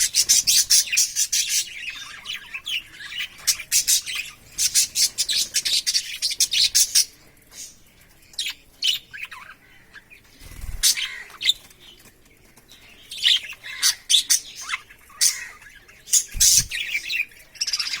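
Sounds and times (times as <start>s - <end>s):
budgerigars chirping: 0.0s - 12.0s, 12.7s - 18.0s.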